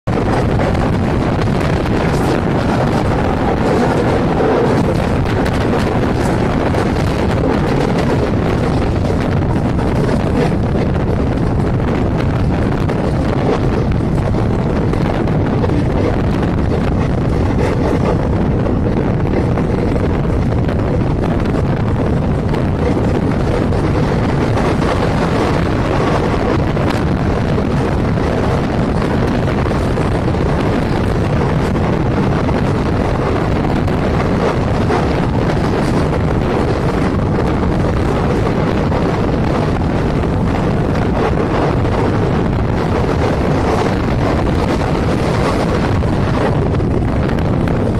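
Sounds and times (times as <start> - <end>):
wind buffeting microphone: 0.0 - 47.9
train wheels on rails: 0.1 - 47.9.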